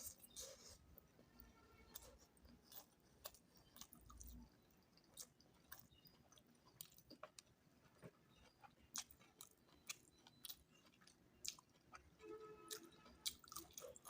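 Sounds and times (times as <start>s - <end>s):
person chewing food: 0.0s - 1.2s, 1.8s - 14.0s.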